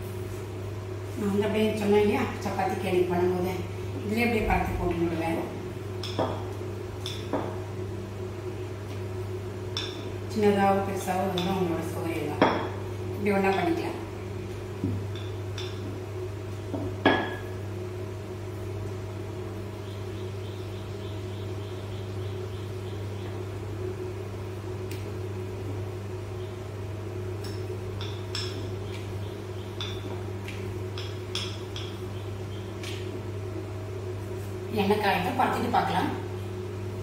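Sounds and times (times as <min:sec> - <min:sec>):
low electric hum: 0:00.0 - 0:37.0.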